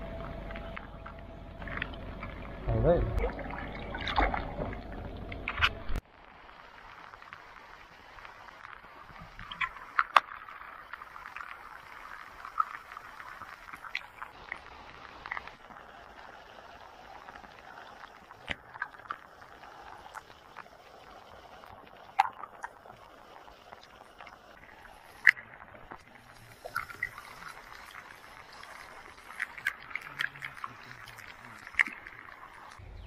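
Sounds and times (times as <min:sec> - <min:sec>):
faint steady hiss: 0:00.0 - 0:33.0
water splashing and sloshing: 0:00.0 - 0:33.0.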